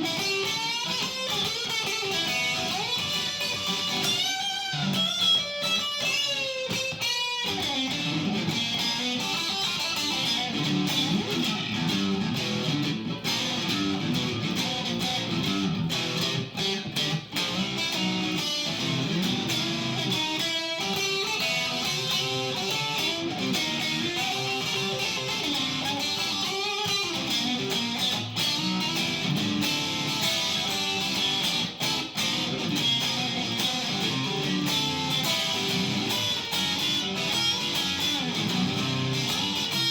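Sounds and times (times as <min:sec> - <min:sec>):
solo blues guitar: 0:00.0 - 0:39.9.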